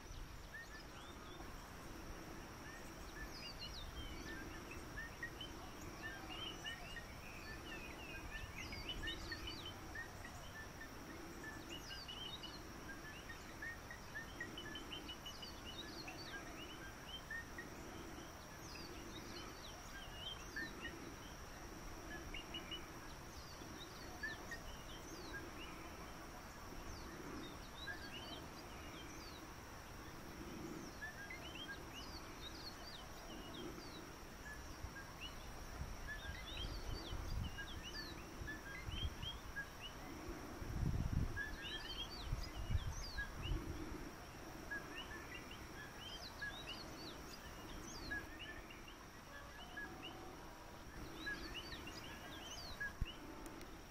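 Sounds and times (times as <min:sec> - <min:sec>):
high insect drone: 0:00.0 - 0:53.9
small birds chirping: 0:00.0 - 0:53.9.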